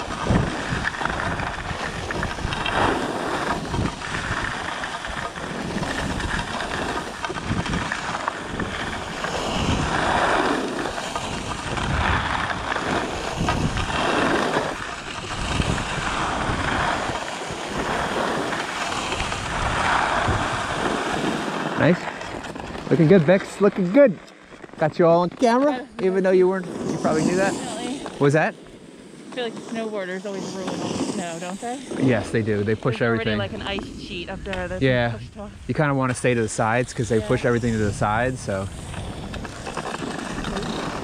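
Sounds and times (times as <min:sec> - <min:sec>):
wind on microphone: 0:00.0 - 0:23.4, 0:24.7 - 0:41.0
skis scraping on packed snow: 0:00.0 - 0:41.0.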